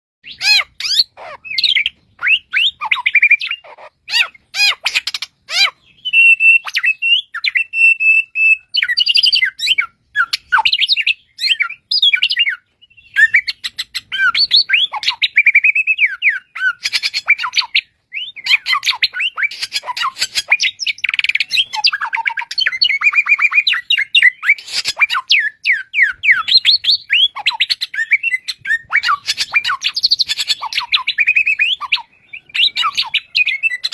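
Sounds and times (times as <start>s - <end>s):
bird singing: 0.2s - 33.9s.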